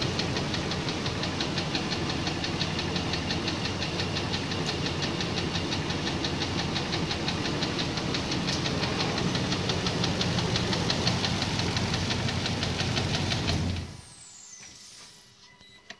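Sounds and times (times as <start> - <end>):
engine running with ticking knock: 0.0 - 14.1.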